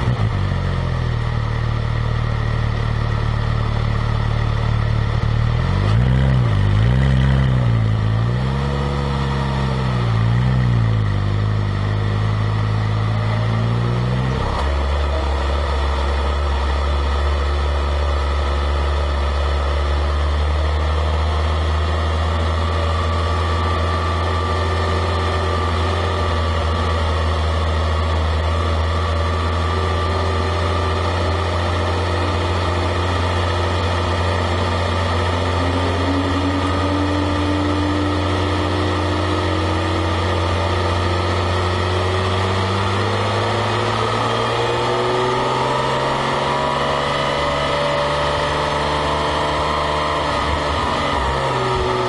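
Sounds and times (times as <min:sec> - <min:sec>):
car engine revving and running: 0:00.0 - 0:52.0.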